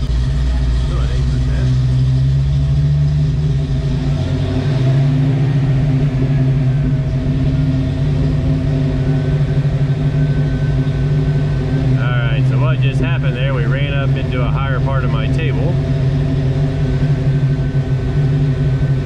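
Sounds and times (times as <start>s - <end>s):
car engine idling high: 0.0s - 19.0s.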